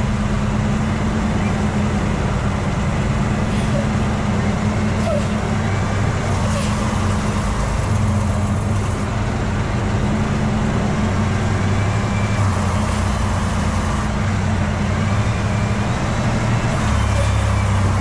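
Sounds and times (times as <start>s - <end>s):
diesel truck engine droning: 0.0s - 18.0s
road noise: 0.0s - 18.0s.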